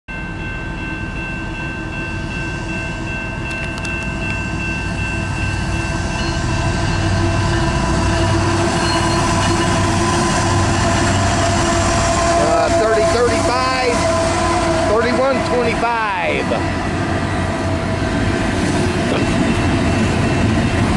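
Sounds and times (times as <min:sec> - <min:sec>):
diesel locomotive engine rumble: 0:00.1 - 0:20.9.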